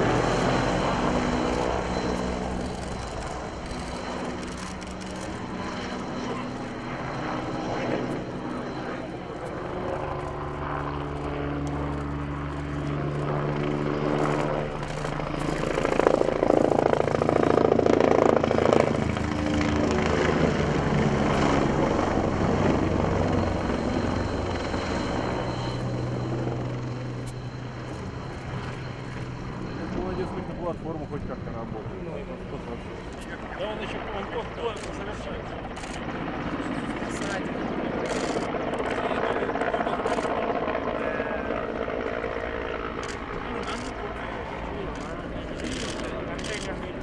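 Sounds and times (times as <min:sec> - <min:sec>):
helicopter flying past: 0:00.0 - 0:47.0.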